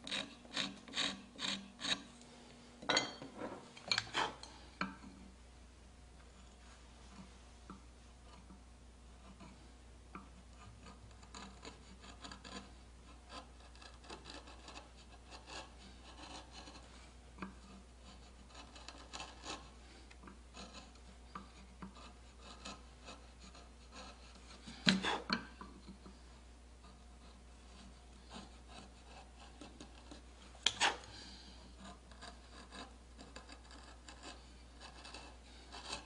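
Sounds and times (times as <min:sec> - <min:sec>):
gouge scraping wood: 0:00.0 - 0:02.2, 0:03.4 - 0:05.3, 0:09.2 - 0:09.6, 0:10.2 - 0:26.2, 0:26.8 - 0:36.0.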